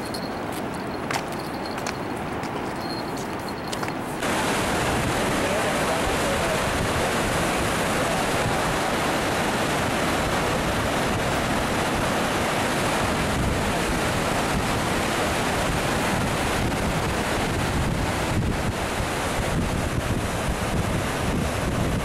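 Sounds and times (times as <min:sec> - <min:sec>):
wind buffeting microphone: 0:00.0 - 0:22.0
waterfall rushing: 0:04.2 - 0:22.0.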